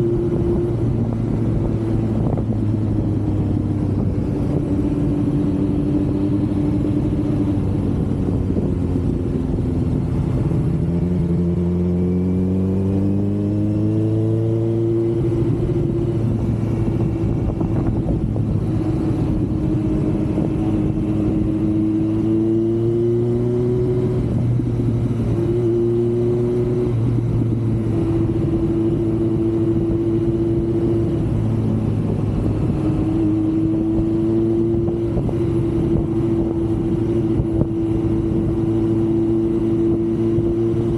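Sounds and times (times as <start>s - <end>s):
motorcycle engine accelerating: 0.0s - 40.9s
wind rumble on microphone: 0.0s - 40.9s.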